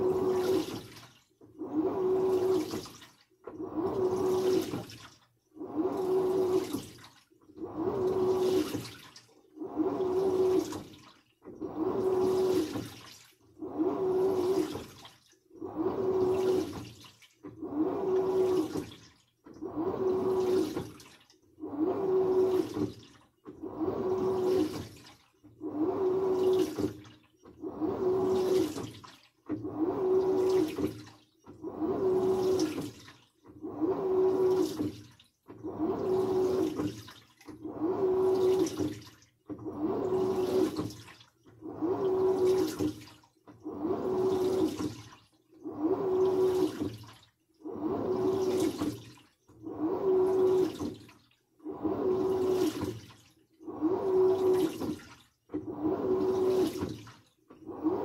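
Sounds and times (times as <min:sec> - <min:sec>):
washing machine hum: 0:00.0 - 0:58.0
water swishing in drum: 0:00.0 - 0:58.0.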